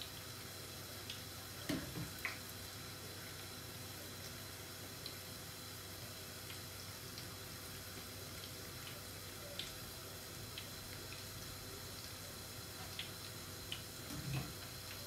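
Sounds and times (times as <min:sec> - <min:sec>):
fritters sizzling in oil: 0:00.0 - 0:15.0.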